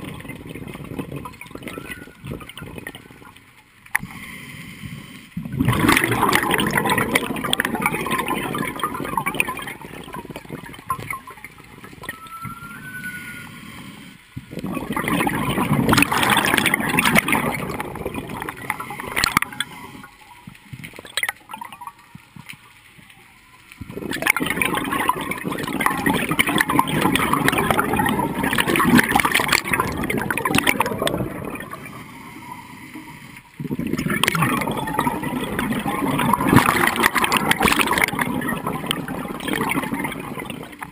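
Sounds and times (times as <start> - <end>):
regulator exhaust bubbles: 0.0 - 4.2, 5.4 - 13.2, 14.4 - 22.4, 23.8 - 32.0, 33.6 - 40.9.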